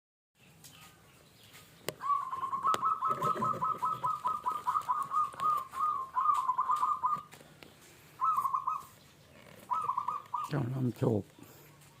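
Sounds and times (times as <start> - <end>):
dove cooing: 1.9 - 12.0.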